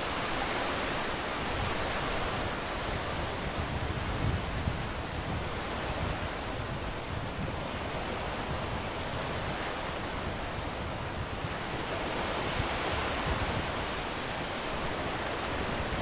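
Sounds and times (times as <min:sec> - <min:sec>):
churning wake water rushing: 0:00.0 - 0:16.0
wind on microphone: 0:00.0 - 0:16.0.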